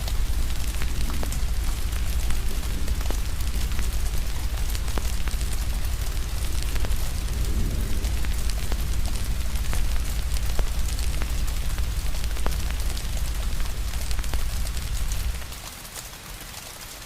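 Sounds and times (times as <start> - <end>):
deep low rumble: 0.0 - 15.6
crackling fire pops and snaps: 0.0 - 15.7
steady rain hiss: 0.0 - 17.0.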